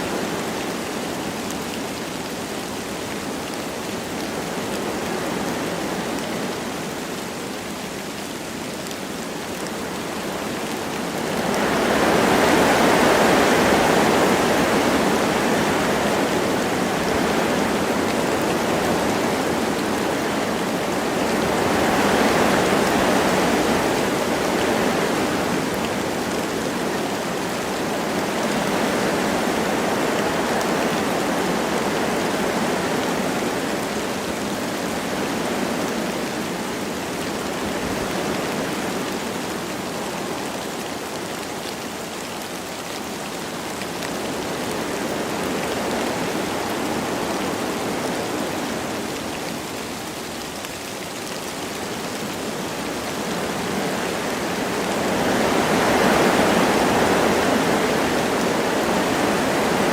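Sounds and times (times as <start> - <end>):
light rain: 0.0 - 59.9
wind through trees: 0.0 - 59.9.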